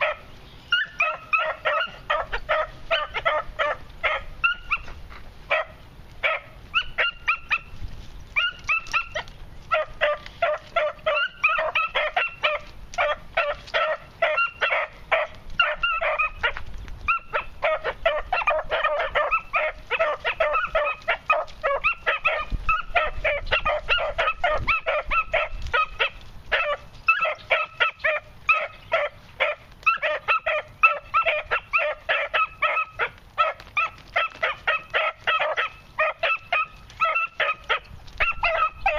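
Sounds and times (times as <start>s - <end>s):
puppies yipping and baying: 0.0s - 38.9s.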